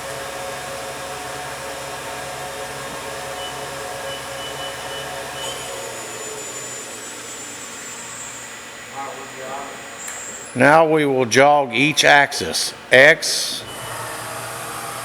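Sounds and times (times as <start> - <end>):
mill spindle machine whine: 0.0 - 11.0, 13.6 - 15.0.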